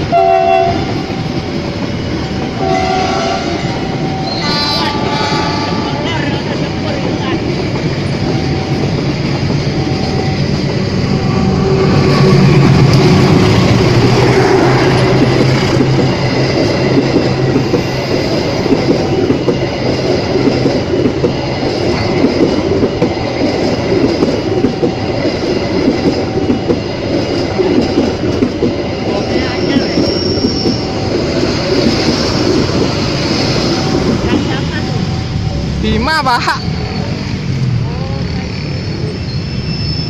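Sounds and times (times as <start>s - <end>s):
train engine hum: 0.0s - 40.0s
wheels clattering on rails: 6.0s - 39.4s.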